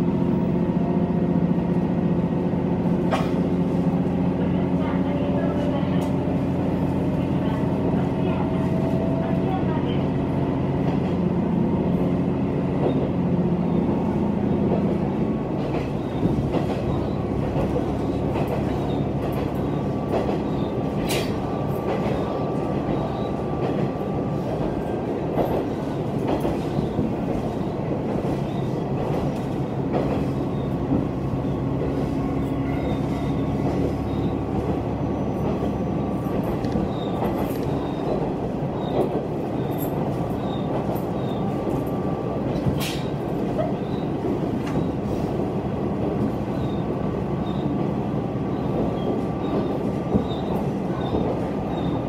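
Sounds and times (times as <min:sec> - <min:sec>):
wheel-on-rail rumble: 0:00.0 - 0:52.0
rail joint clicks: 0:00.4 - 0:52.0.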